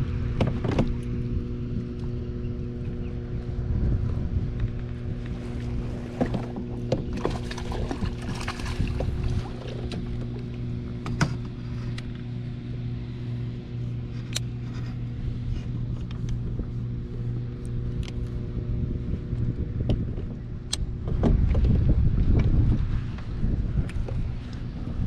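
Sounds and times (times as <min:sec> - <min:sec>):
low mechanical hum: 0:00.0 - 0:25.0
low rumbling noise: 0:00.0 - 0:25.0.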